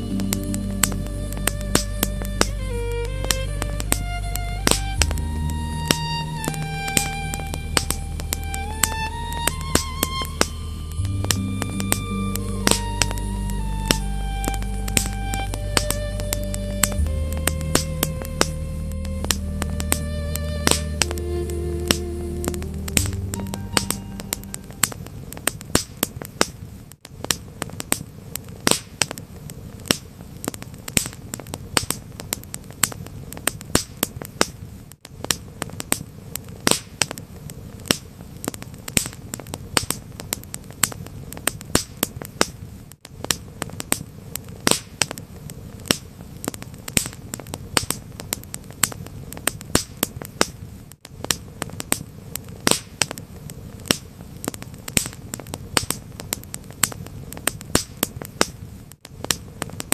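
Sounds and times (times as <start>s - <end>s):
fire pops and snaps: 0.0s - 59.9s
low hiss and rumble: 0.0s - 59.9s
wood fire crackling: 0.0s - 59.9s.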